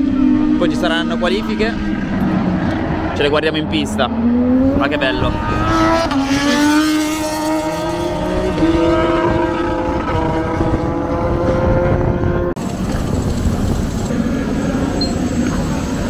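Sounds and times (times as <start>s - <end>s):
racing motorcycle engine revving: 0.0s - 16.0s.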